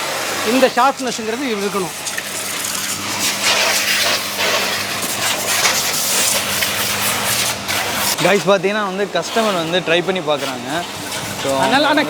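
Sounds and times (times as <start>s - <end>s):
pressure washer motor hum: 0.0s - 12.0s
water jet spraying: 0.0s - 12.0s.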